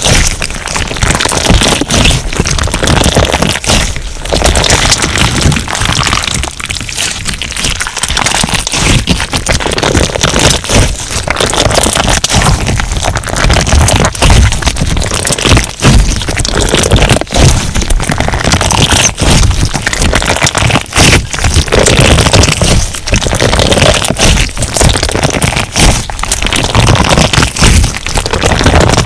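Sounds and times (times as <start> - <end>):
crunchy slime crackling: 0.0 - 29.0.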